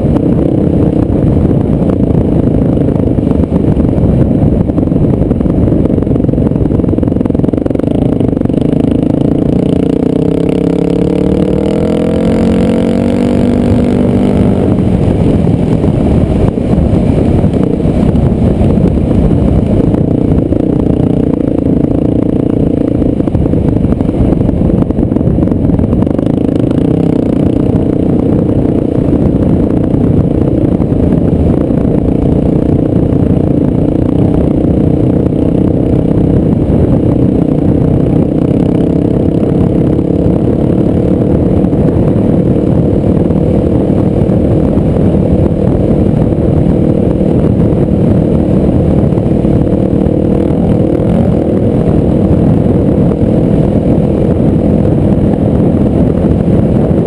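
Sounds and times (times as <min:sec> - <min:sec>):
dirt bike engine: 0:00.0 - 0:57.0
wind noise: 0:00.0 - 0:57.0.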